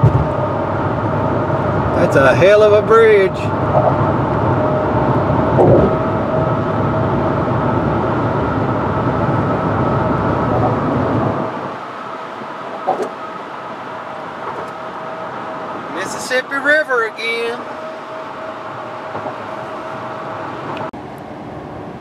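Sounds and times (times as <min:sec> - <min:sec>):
faint steady whine: 0:00.0 - 0:22.0
tyre and engine rumble: 0:00.0 - 0:22.0.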